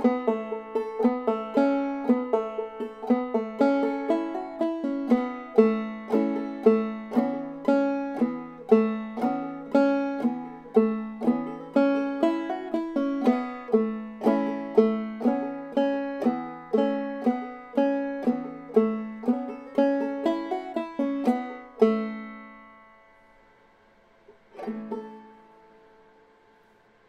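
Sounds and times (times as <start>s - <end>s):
banjo plucked and strummed: 0.0s - 27.0s.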